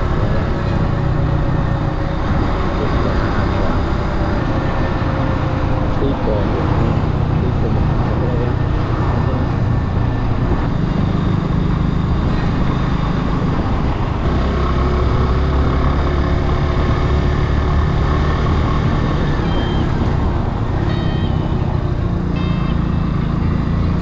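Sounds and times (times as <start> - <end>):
steady rushing noise: 0.0 - 22.2
motorcycle engine running: 0.0 - 24.0.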